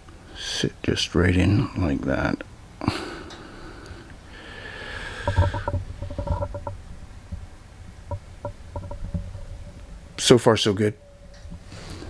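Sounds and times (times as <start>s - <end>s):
soft scraping hiss: 0.0s - 12.0s.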